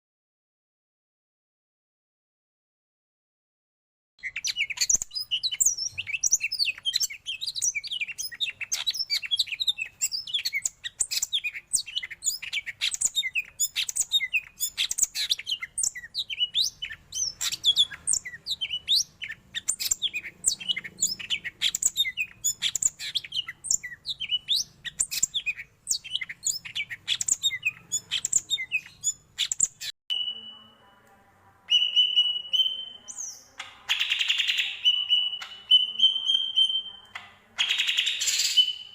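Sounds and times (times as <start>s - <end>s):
bird singing chirps and whistles: 4.2s - 30.8s, 31.7s - 38.9s.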